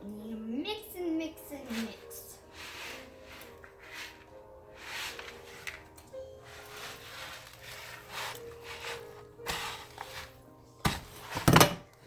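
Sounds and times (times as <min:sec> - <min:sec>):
spoon stirring sticky mix in bowl: 0:01.0 - 0:11.5.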